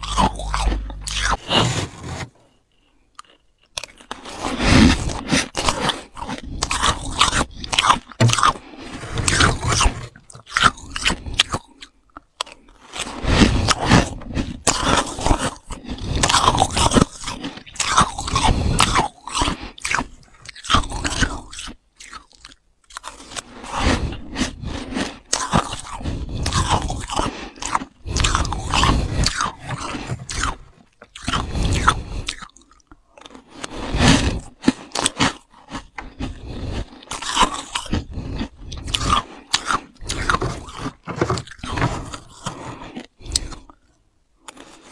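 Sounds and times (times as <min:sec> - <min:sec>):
frost being crunched and chewed: 0:00.0 - 0:01.5, 0:03.2 - 0:23.5, 0:24.4 - 0:44.8.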